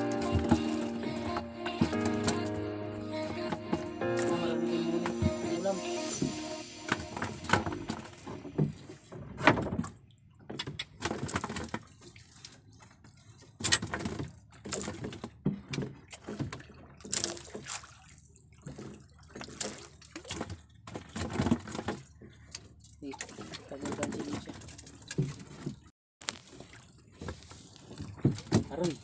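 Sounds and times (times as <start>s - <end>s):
water lapping against boat: 0.0s - 29.0s.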